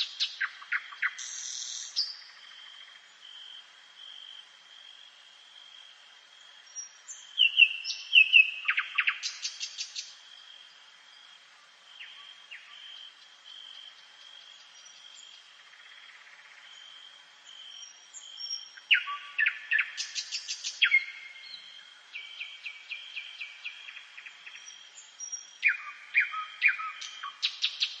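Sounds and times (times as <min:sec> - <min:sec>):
songbird trills: 0:00.0 - 0:03.2, 0:06.6 - 0:10.2, 0:11.9 - 0:28.0.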